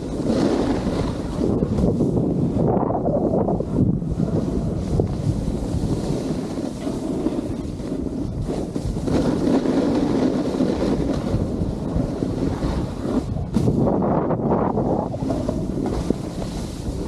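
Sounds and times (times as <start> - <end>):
snowboard sliding on snow: 0.0 - 17.0
wind buffeting microphone: 0.0 - 17.0.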